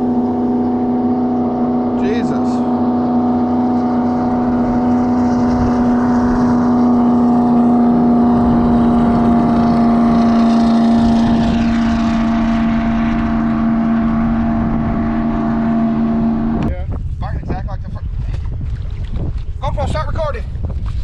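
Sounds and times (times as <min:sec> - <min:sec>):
boat motor humming: 0:00.0 - 0:17.2.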